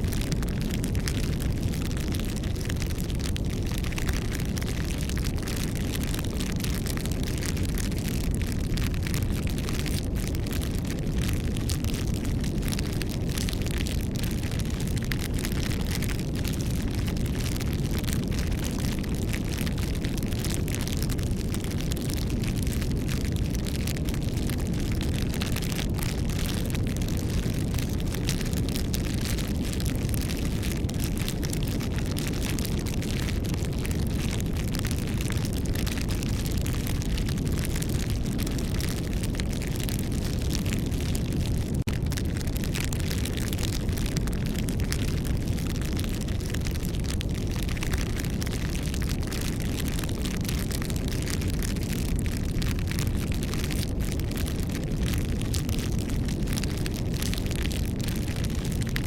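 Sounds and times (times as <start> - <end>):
campfire flames rumbling: 0.0 - 59.0
fire crackles and pops: 0.0 - 59.0.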